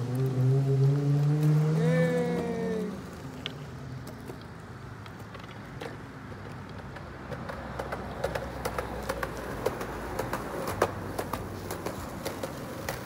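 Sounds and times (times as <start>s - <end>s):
skateboard wheels rolling on asphalt: 0.0s - 13.0s.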